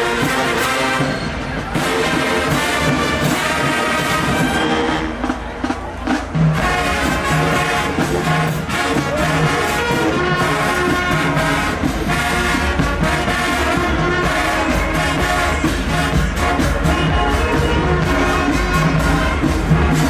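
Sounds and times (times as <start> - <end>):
brass section playing chords: 0.0 - 20.0.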